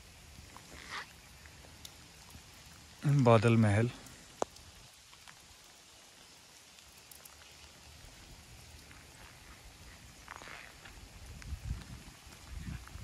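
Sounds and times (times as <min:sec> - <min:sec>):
raindrops ticking: 0:00.0 - 0:13.0.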